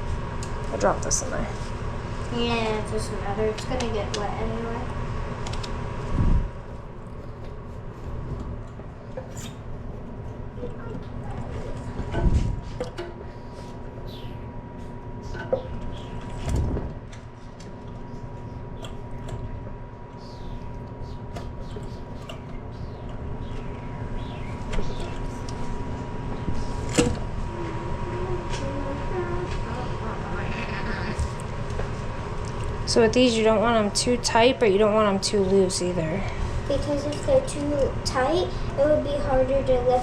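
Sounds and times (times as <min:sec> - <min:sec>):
steady hum: 0:00.0 - 0:40.0.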